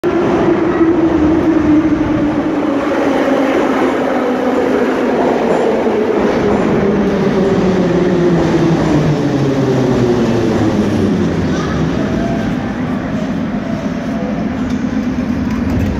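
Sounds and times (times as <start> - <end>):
train whine: 0.0 - 15.9
wheels rumbling on rails: 0.1 - 15.9.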